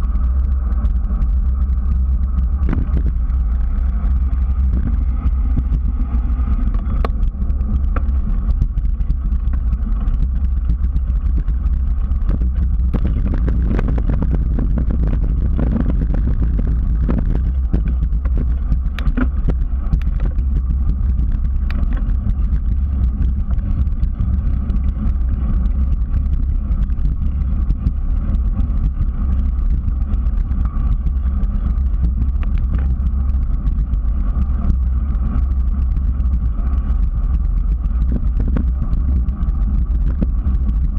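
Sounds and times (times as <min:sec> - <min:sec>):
bicycle clicks and rattles: 0:00.0 - 0:40.9
wind buffeting microphone: 0:00.0 - 0:40.9.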